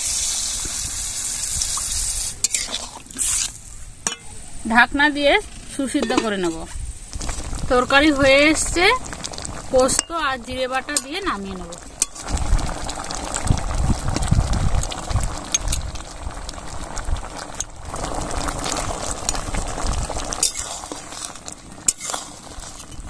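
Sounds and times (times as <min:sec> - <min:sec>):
thick curry bubbling: 0:00.0 - 0:23.0.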